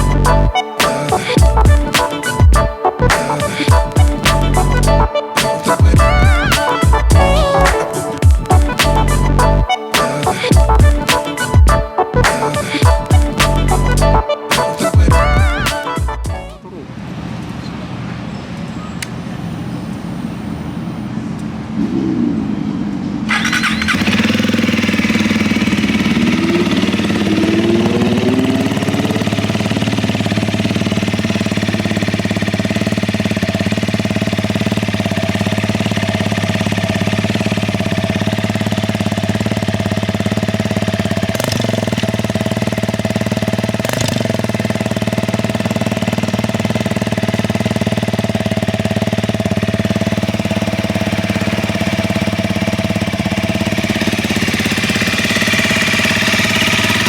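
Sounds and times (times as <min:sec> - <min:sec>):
motorcycle engine idling: 0:00.0 - 0:09.7, 0:10.3 - 0:14.2, 0:14.8 - 0:16.5, 0:23.3 - 0:57.0.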